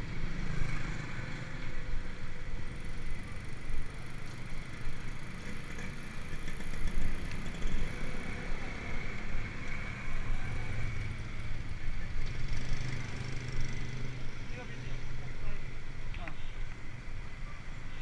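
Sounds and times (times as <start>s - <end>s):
bike rolling rumble: 0.0s - 18.0s.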